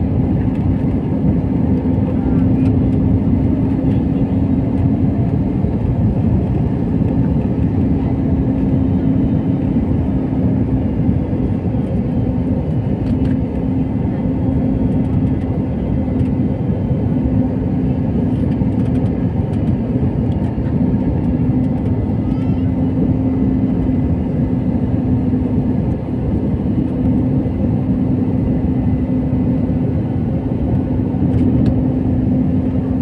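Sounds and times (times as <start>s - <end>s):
jet engine roar in cabin: 0.0s - 33.0s
low hum: 0.0s - 33.0s.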